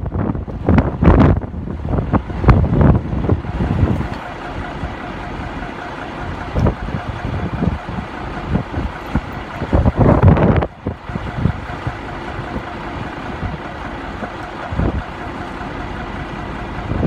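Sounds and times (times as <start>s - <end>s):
truck engine running: 0.0s - 17.0s
wind buffeting microphone: 0.0s - 17.0s.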